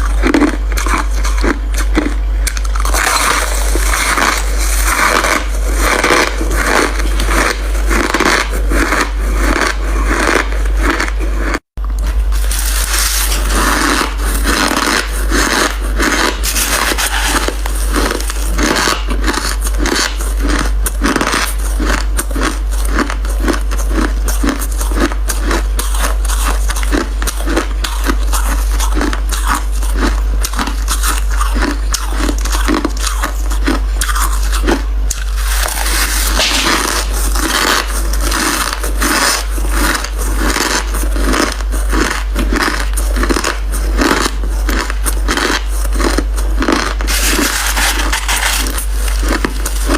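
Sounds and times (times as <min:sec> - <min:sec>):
crushed ice being chewed: 0:00.0 - 0:49.9.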